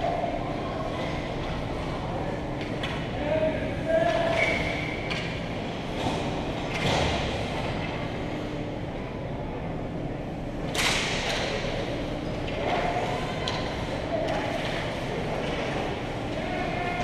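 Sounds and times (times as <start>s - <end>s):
hollow arena background: 0.0s - 17.0s.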